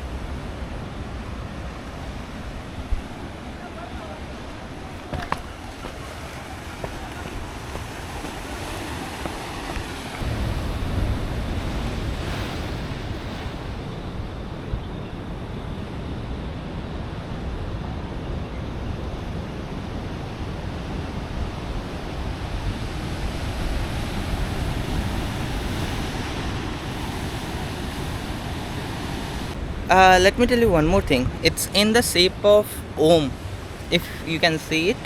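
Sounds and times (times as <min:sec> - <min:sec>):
wind buffeting microphone: 0:00.0 - 0:31.9
ocean surf on a beach: 0:00.0 - 0:35.0.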